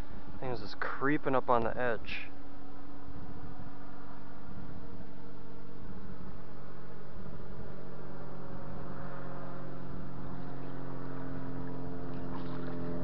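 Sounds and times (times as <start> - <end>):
boat motor humming: 2.3 - 13.0.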